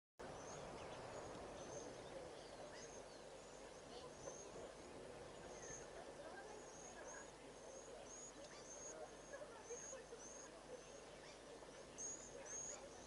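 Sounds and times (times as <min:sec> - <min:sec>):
small birds chirping: 0:00.2 - 0:13.0
steady low hiss: 0:00.2 - 0:13.0.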